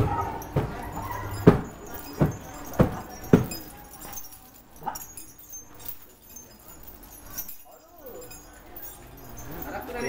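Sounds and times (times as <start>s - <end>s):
iron chain clanking on concrete: 0.0s - 10.0s.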